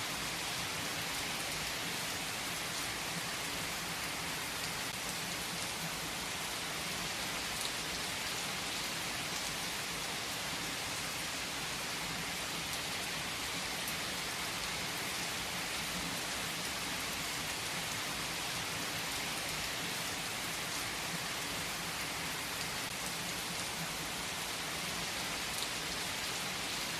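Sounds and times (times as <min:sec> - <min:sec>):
steady rain: 0:00.0 - 0:26.9.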